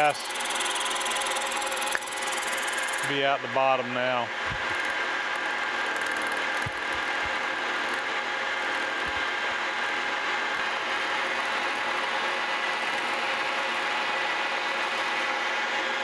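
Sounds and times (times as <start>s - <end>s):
milling machine cutting metal: 0.0s - 3.8s, 4.4s - 16.0s.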